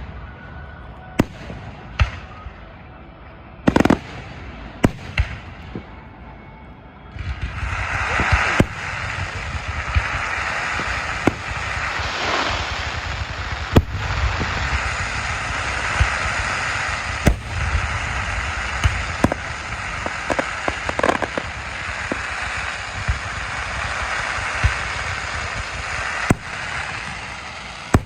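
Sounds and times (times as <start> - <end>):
fireworks bangs: 0.0 - 2.6, 3.7 - 6.0, 7.1 - 28.0
noisy background: 0.0 - 28.0
fireworks cracks: 3.7 - 5.9, 7.2 - 28.0.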